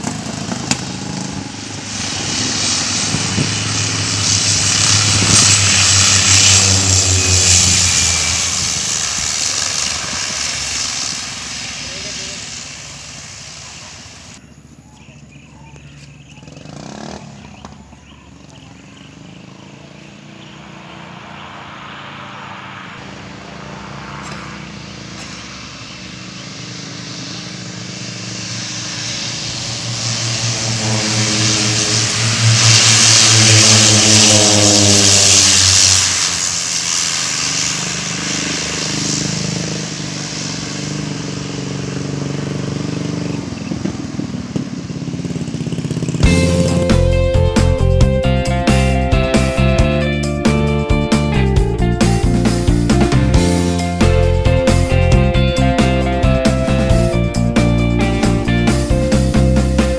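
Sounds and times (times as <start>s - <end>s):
turboprop aircraft drone: 0.0s - 59.9s.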